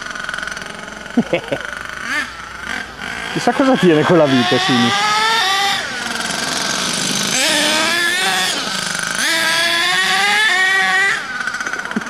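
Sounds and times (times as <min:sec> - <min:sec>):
small engine revving high-pitched: 0:00.0 - 0:12.0.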